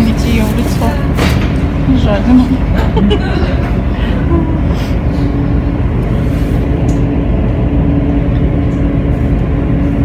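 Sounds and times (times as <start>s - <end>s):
electric train rumble: 0.0s - 10.0s
train hum: 0.0s - 10.0s.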